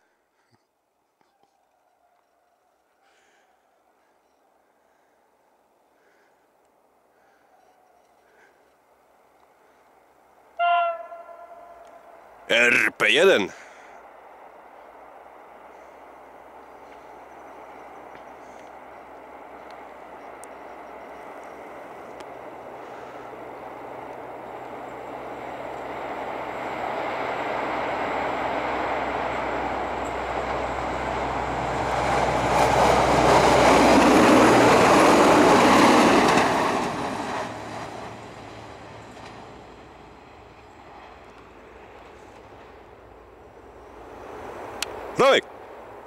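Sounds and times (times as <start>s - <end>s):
diesel railcar passing: 8.9s - 46.0s.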